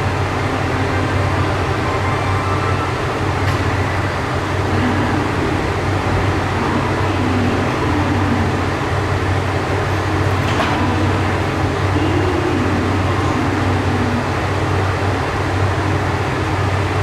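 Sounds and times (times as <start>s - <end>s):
diesel railcar engine humming: 0.0s - 17.0s.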